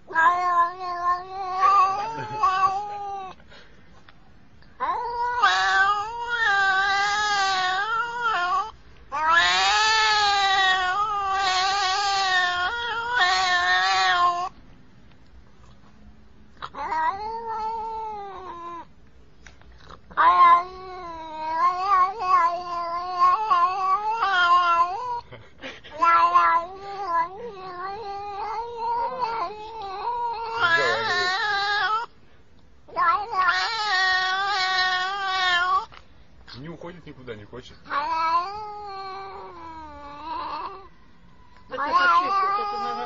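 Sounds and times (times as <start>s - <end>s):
cat yowling: 0.0s - 3.4s, 4.8s - 14.6s, 16.6s - 18.9s, 19.8s - 25.3s, 25.9s - 32.2s, 32.9s - 36.0s, 37.8s - 43.0s.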